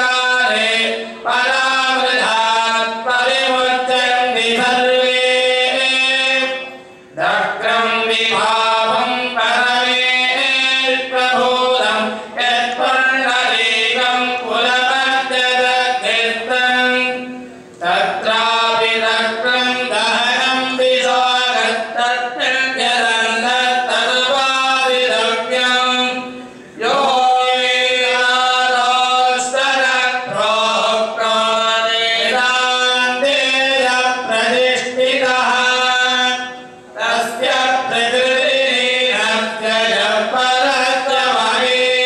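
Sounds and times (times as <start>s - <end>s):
hymn sung as melodic chant: 0.0s - 42.0s.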